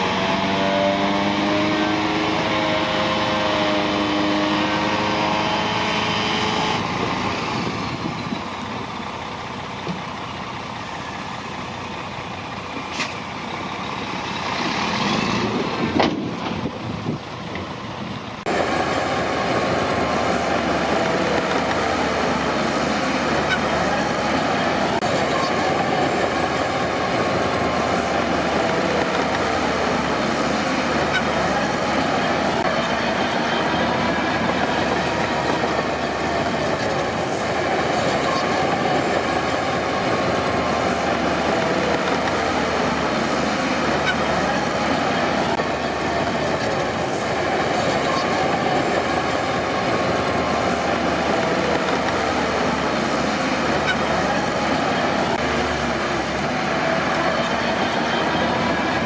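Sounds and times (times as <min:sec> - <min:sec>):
steel tracks clanking and squealing: 0:00.0 - 0:08.6, 0:18.4 - 0:59.0
bulldozer diesel engine: 0:00.0 - 0:59.0.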